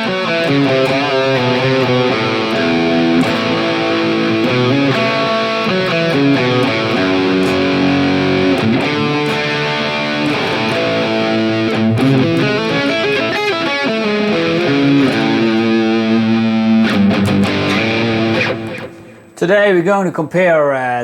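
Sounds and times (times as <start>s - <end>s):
electric guitar lead with vibrato: 0.0s - 19.4s.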